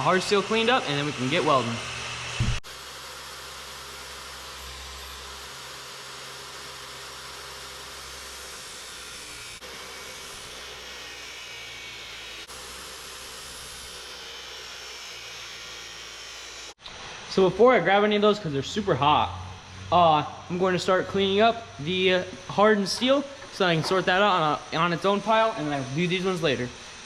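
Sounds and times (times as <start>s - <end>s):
chop saw cutting steel: 0.0s - 17.5s, 21.2s - 27.0s.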